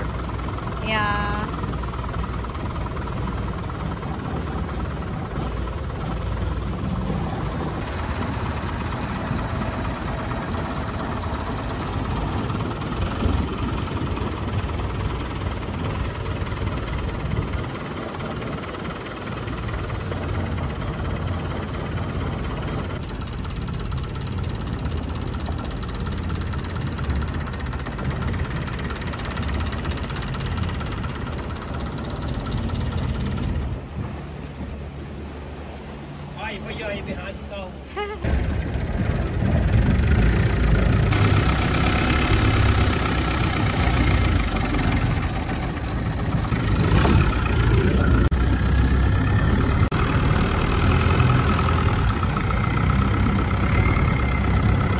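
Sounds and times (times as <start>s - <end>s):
boat engine droning: 0.0s - 54.9s.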